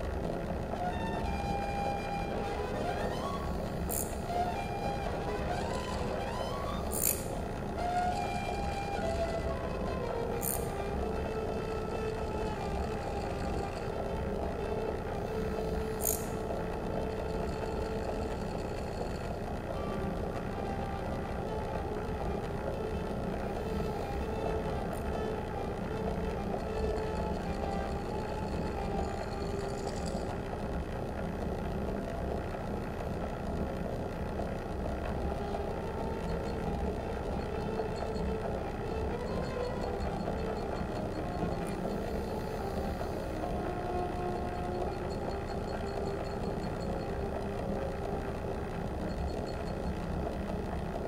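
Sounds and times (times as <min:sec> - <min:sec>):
low rumbling drone: 0:00.0 - 0:50.8.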